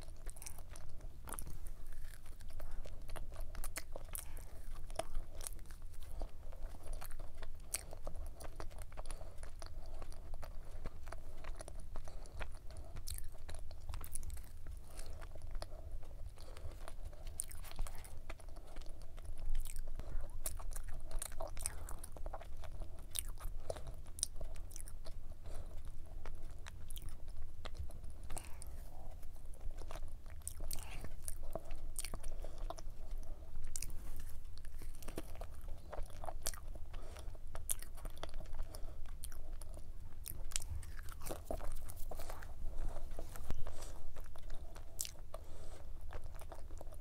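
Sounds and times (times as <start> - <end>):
pastry crackling while chewing: 0.0 - 47.0.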